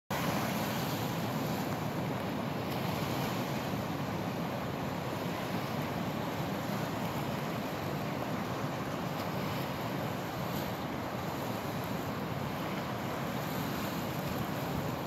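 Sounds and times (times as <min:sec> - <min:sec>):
waves washing onto beach: 0:00.1 - 0:15.0.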